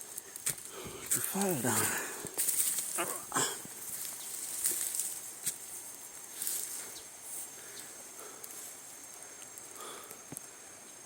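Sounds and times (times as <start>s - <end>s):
high insect drone: 0.0s - 11.0s
rustling leaves and snapping twigs: 0.0s - 11.0s.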